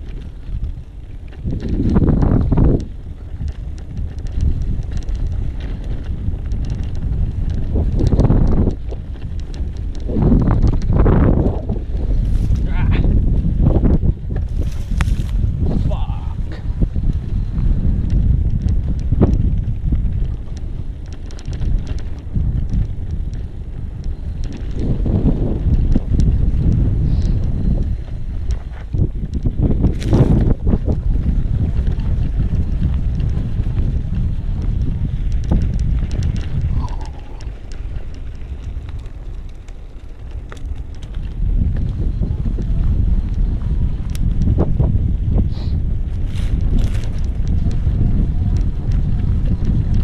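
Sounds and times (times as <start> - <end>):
light clicks and rattles: 0.0 - 15.4, 16.3 - 34.0, 34.6 - 44.8
wind buffeting microphone: 0.0 - 50.0.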